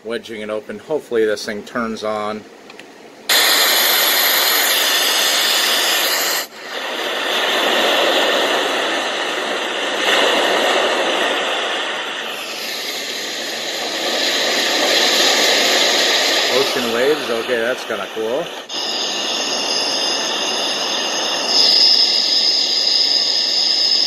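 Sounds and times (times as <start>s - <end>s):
white noise machine hiss: 0.0s - 24.0s.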